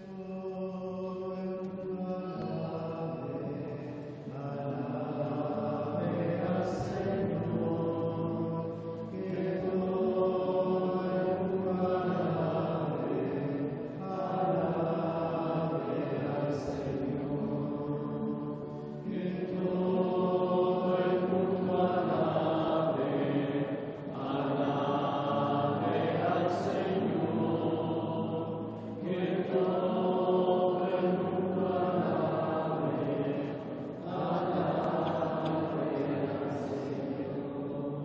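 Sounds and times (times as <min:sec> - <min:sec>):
congregation singing a chant: 0:00.0 - 0:38.0.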